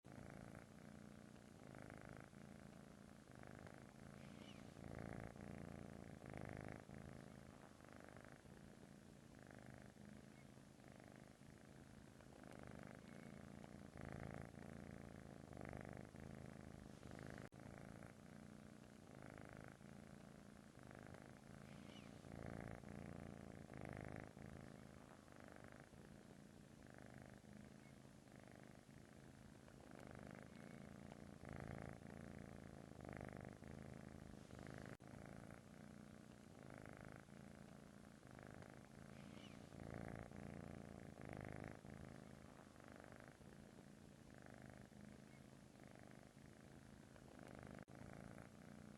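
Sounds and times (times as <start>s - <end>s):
kitten purring: 0.0s - 48.9s.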